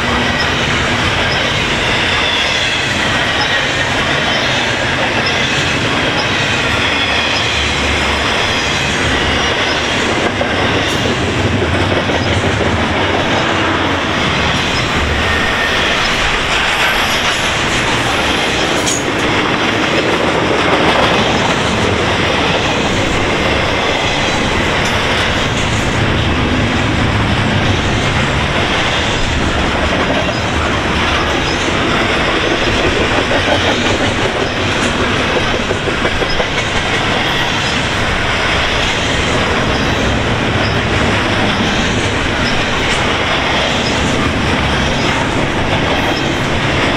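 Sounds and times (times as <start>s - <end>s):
freight train wheels rumbling on rails: 0.0s - 46.9s.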